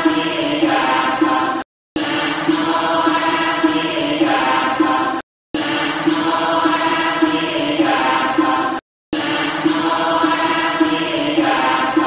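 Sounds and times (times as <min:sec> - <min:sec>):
devotional chanting with music: 0:00.0 - 0:12.0.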